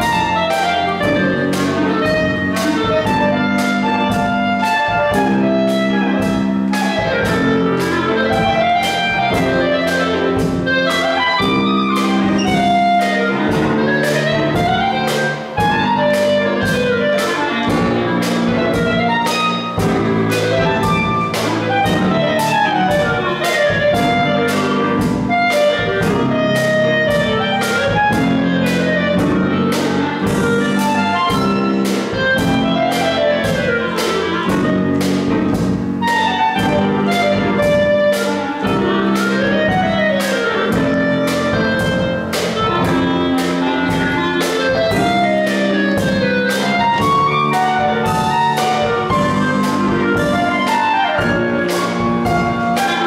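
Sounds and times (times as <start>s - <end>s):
bass guitar: 0.0s - 53.0s
clarinet playing quick runs: 0.0s - 53.0s
drum kit steady beat: 0.0s - 53.0s
piano: 0.0s - 53.0s.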